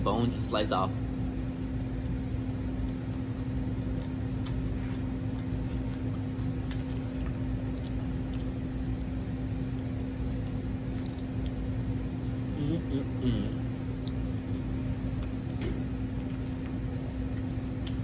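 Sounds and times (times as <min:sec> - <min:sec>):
low mechanical hum: 0:00.0 - 0:18.0
person chewing: 0:01.3 - 0:18.0.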